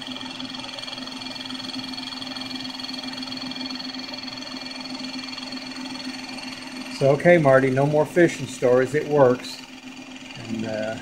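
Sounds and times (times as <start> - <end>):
milling machine humming and whining: 0.0 - 11.0.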